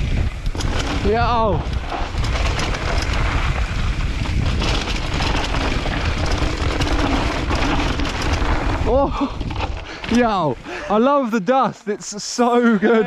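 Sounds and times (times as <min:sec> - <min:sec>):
bike clattering over bumps: 0:00.0 - 0:10.5
tyre noise on dirt: 0:00.0 - 0:10.5
wind rush on microphone: 0:00.0 - 0:10.9.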